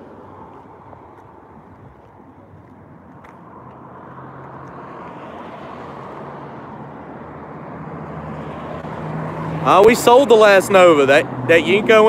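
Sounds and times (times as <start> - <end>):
rushing road noise: 0.0 - 12.0
vehicle engine hum: 0.0 - 12.0.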